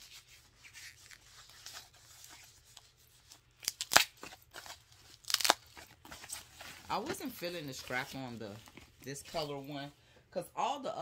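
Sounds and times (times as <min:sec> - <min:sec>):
paper wrapping rustling and crinkling: 0:00.0 - 0:09.9.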